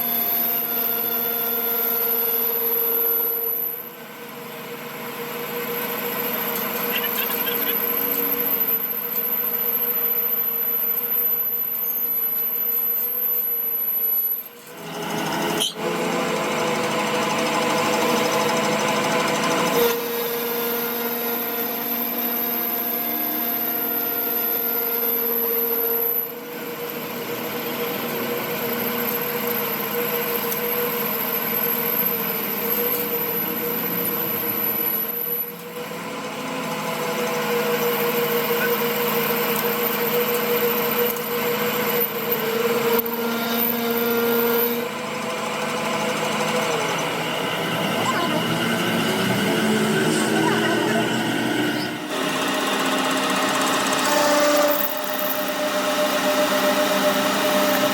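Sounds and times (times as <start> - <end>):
power tool humming and whining: 0.0 - 57.9.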